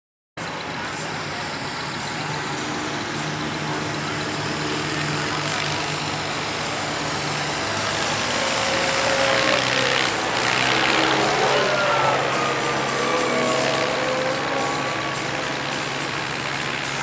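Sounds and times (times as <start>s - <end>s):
tractor diesel engine under load: 0.4s - 17.0s.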